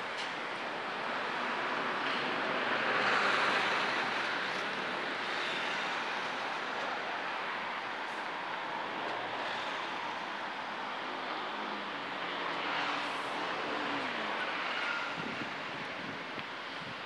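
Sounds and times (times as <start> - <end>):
vehicles and site machinery rumble: 0.0 - 17.0.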